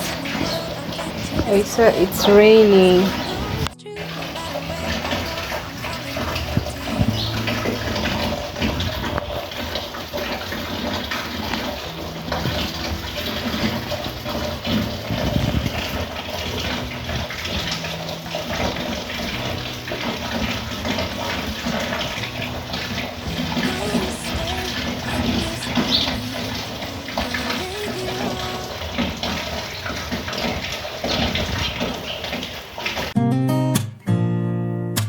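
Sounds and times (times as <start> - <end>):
heavy rain falling: 0.0 - 33.2.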